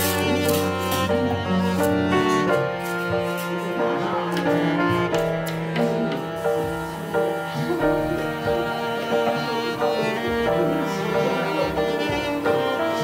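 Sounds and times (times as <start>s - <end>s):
bowed strings melody: 0.0s - 13.0s.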